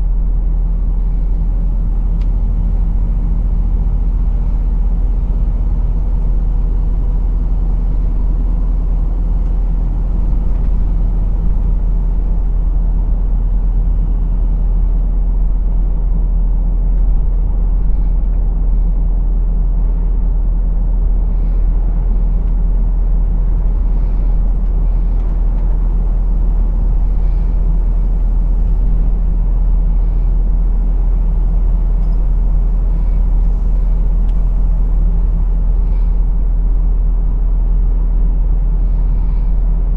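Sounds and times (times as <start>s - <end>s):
lorry diesel engine rumbling: 0.0s - 39.9s
road noise: 0.0s - 39.9s.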